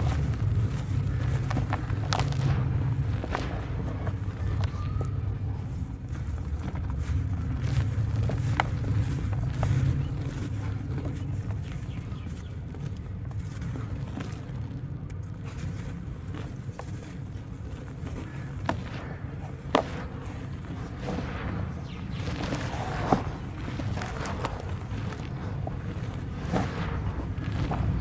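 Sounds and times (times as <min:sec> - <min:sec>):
dry dirt crumbling by hand: 0:00.0 - 0:28.0
steady low rumble: 0:00.0 - 0:28.0.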